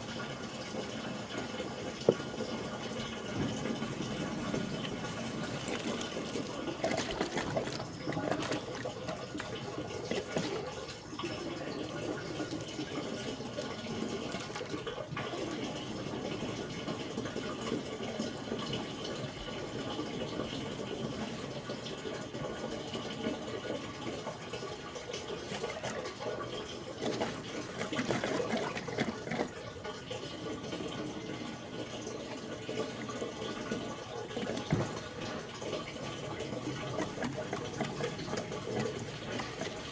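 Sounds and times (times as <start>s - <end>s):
liquid pouring from a jug: 0.0s - 39.9s.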